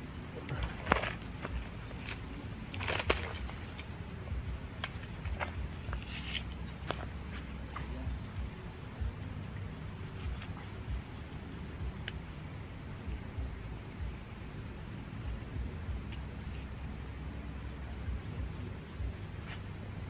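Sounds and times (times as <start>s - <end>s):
insects chirring: 0.0s - 20.0s
low rumble: 0.0s - 20.0s.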